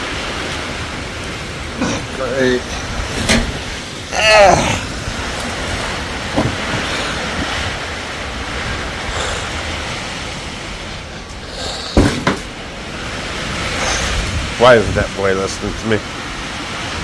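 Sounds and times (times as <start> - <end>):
heavy rain: 0.0 - 17.0
wind: 0.0 - 17.0.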